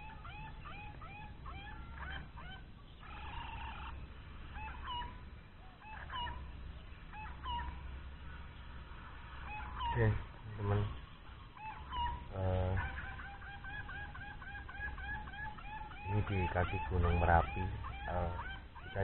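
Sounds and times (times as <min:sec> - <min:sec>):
bird whistling rising notes: 0:00.0 - 0:19.0
sharp bird calls: 0:00.0 - 0:19.0.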